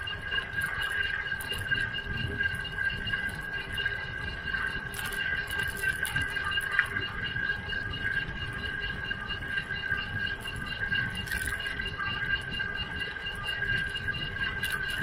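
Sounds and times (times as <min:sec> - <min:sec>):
pulsing high whine: 0:00.0 - 0:15.0
wind: 0:00.0 - 0:15.0.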